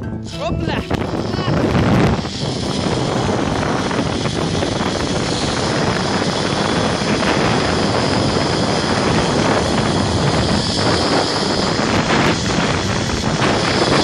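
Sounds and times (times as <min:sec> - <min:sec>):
wind rushing on microphone: 0:00.0 - 0:14.0
pulley running along cable: 0:00.9 - 0:14.0.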